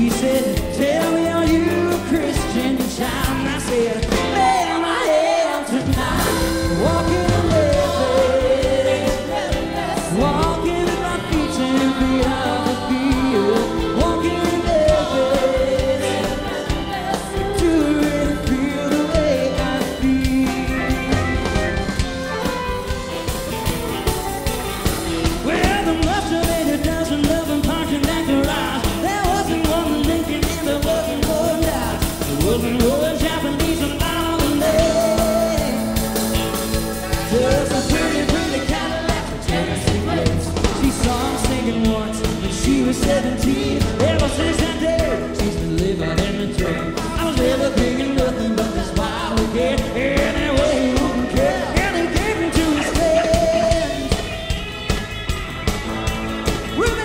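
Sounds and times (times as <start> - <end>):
person singing: 0.0 - 54.6
drum kit: 0.0 - 57.0
electric guitars: 0.0 - 57.0.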